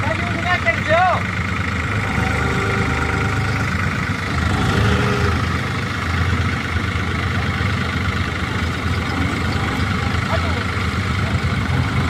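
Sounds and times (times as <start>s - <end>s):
tractor diesel engines idling: 0.0s - 12.0s.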